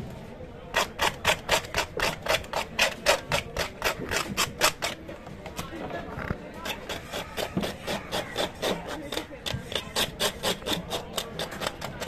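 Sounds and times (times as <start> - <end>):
knife scraping fish scales: 0.7 - 5.0, 6.6 - 12.0.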